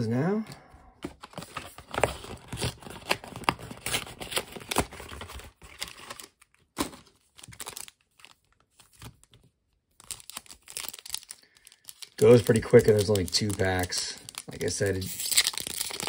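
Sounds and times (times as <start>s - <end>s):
wrapper crinkling: 1.4s - 16.0s.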